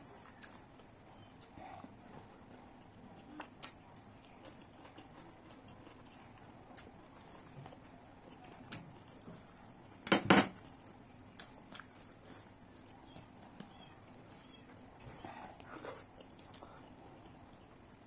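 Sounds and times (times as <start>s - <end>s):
person chewing food: 0.1s - 10.0s, 10.6s - 18.0s.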